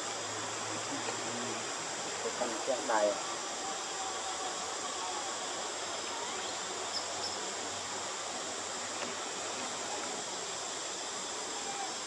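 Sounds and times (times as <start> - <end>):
even hiss: 0.0 - 12.0
insect drone: 0.0 - 12.0.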